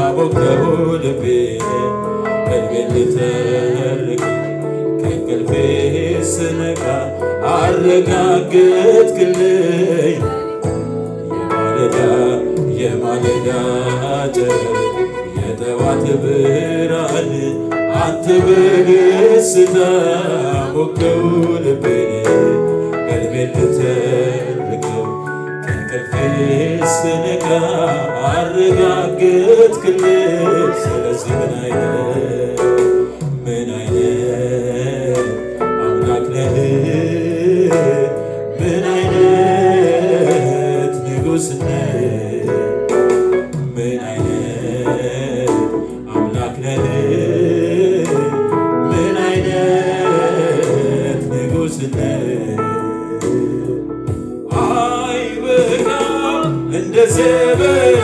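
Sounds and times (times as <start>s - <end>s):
instrumental accompaniment: 0.0s - 58.0s
man singing into a microphone: 0.0s - 58.0s.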